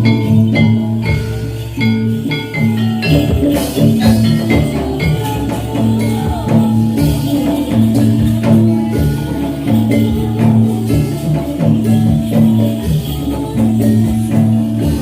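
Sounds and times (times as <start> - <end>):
bronze metallophones struck: 0.0 - 15.0
drums playing: 0.0 - 15.0.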